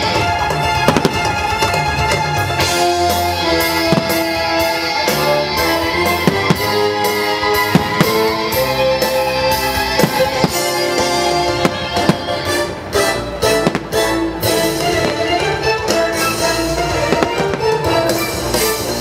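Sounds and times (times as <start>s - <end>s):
firework bangs: 0.0s - 19.0s
orchestral music over loudspeakers: 0.0s - 19.0s.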